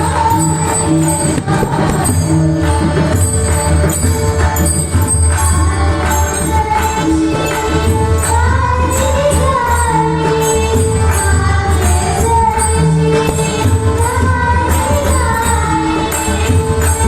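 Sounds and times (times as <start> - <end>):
hand drums playing: 0.0 - 17.0
jingling metallic percussion: 0.0 - 17.0
woman singing devotional melody: 0.0 - 17.0.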